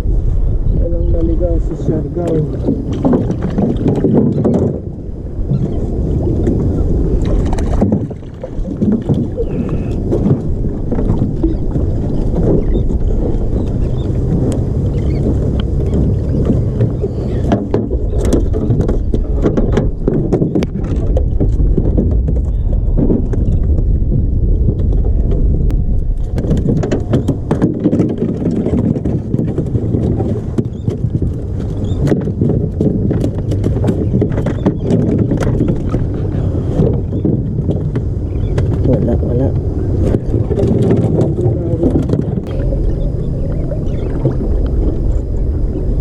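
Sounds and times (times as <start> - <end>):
boat engine low rumble: 0.0 - 46.0.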